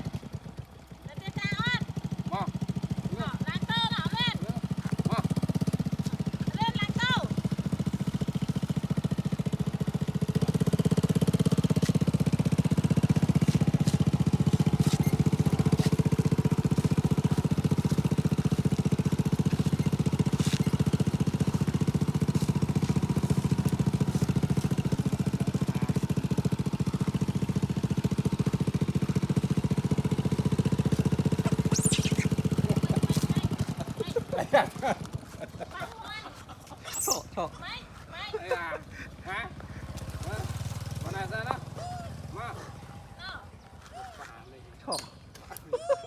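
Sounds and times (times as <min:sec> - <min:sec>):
small motorcycle engine running: 0:00.0 - 0:43.8.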